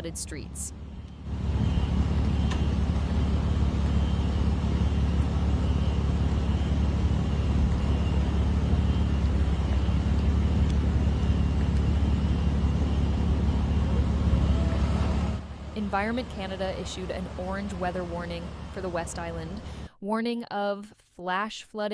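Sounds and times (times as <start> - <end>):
vehicle engine rumbling: 0.0 - 19.9.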